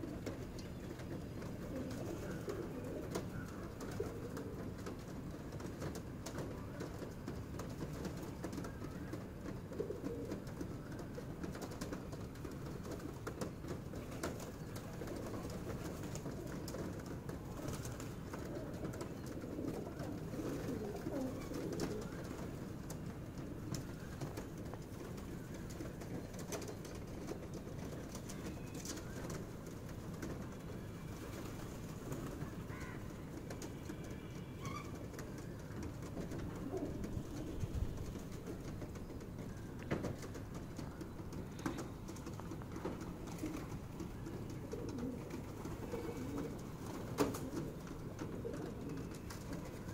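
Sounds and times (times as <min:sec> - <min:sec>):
pigeons cooing: 0:00.0 - 0:49.9
pigeons pecking on concrete: 0:00.0 - 0:49.9
wings flapping: 0:00.0 - 0:49.9.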